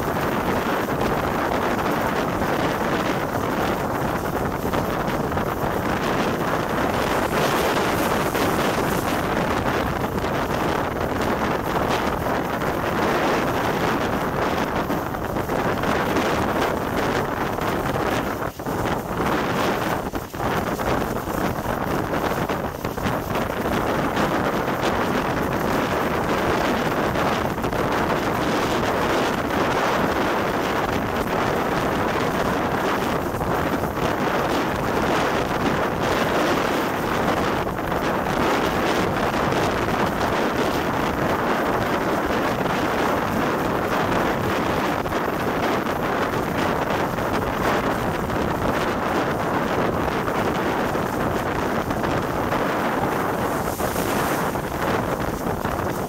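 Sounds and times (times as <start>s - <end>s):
train running noise: 0.0s - 28.4s, 32.6s - 56.0s
wind buffeting microphone: 0.0s - 56.0s.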